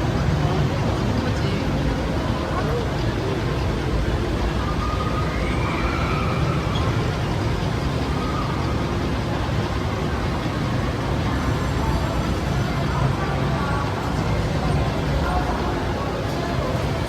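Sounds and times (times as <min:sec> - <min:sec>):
crowded indoor background din: 0:00.0 - 0:17.0
faint distant voices: 0:00.0 - 0:17.0.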